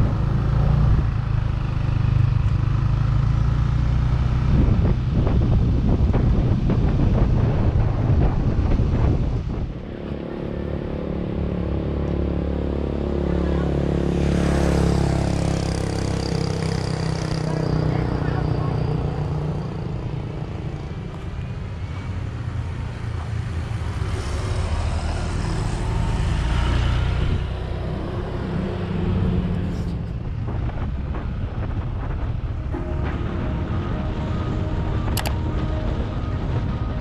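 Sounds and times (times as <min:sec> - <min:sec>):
engines humming: 0:00.0 - 0:37.0
road noise rumble: 0:00.0 - 0:37.0.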